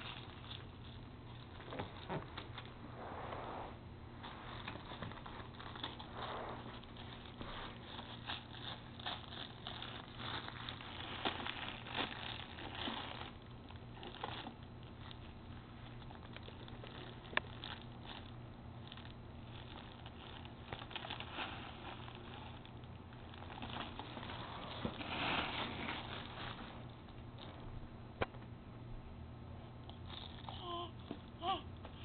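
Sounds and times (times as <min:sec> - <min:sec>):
cellophane rustling and crinkling: 0:00.0 - 0:02.8, 0:04.2 - 0:27.6.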